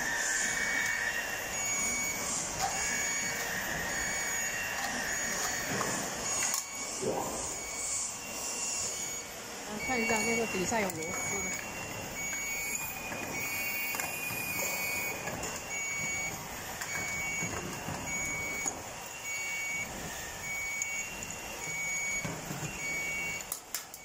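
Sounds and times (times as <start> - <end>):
electronic beeper beeping: 0.0 - 24.0.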